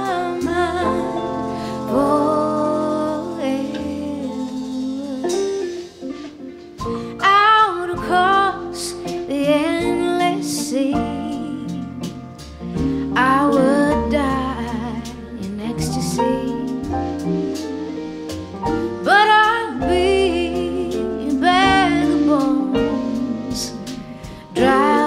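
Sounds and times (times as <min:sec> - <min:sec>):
woman singing: 0:00.0 - 0:06.2, 0:06.9 - 0:18.0, 0:18.7 - 0:25.0
upright piano and band: 0:00.0 - 0:25.0.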